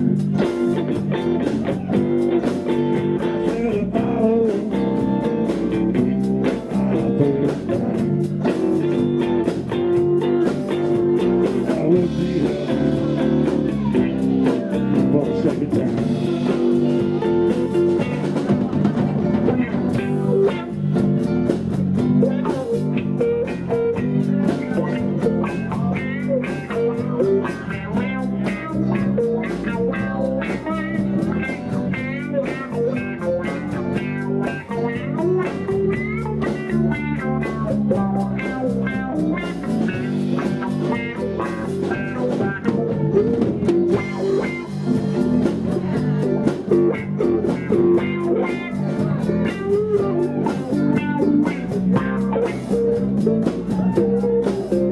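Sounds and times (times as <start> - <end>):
bass guitar: 0.0 - 54.9
drum kit: 0.0 - 54.9
electric guitars: 0.0 - 54.9.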